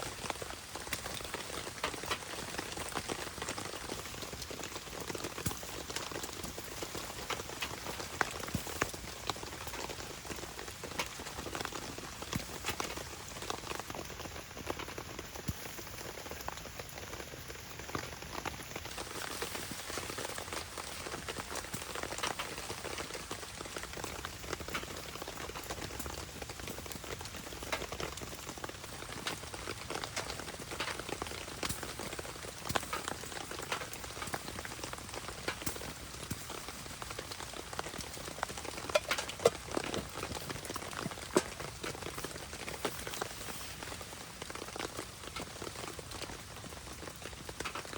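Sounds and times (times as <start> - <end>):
rain pattering: 0.0 - 47.9
sharp clicks of raindrops: 0.0 - 47.9.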